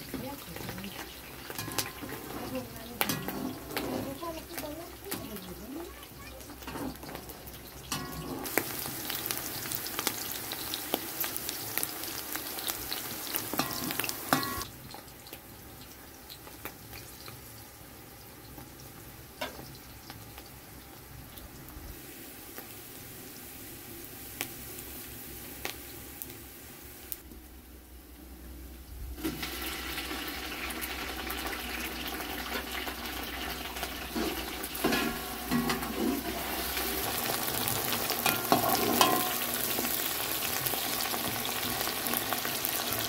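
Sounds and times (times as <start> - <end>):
food sizzling in a pan: 0.0 - 28.0, 28.6 - 43.0.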